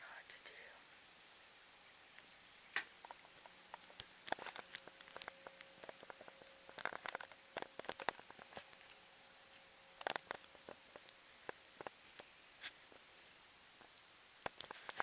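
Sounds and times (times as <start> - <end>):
faint clicks and light taps: 2.2 - 13.1, 13.8 - 15.0.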